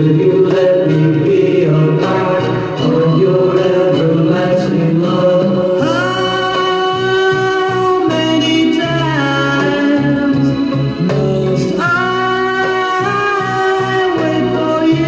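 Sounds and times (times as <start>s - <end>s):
music with singing: 0.0s - 15.0s.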